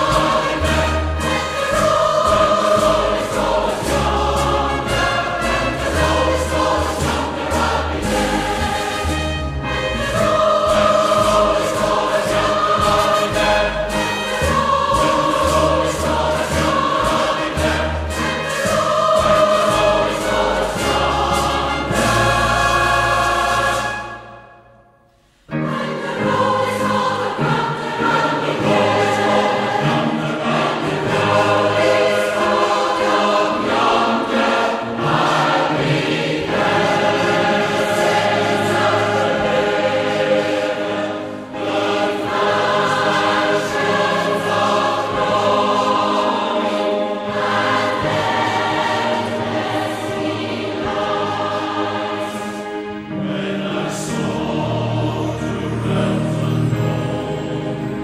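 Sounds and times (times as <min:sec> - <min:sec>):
choir singing a hymn: 0:00.0 - 0:24.6, 0:25.2 - 0:58.0.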